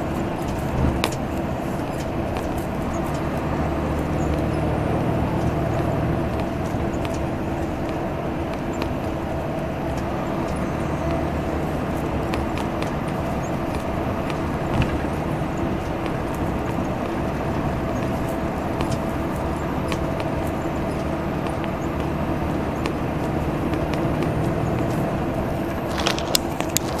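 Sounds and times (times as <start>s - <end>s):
bus diesel engine droning: 0.0s - 27.0s.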